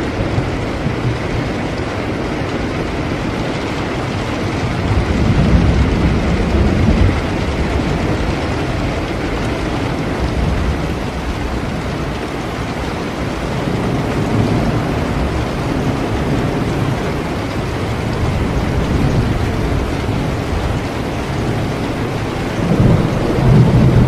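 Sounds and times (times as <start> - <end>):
distant thunder rumble: 0.0 - 24.0
heavy rain: 0.0 - 24.0.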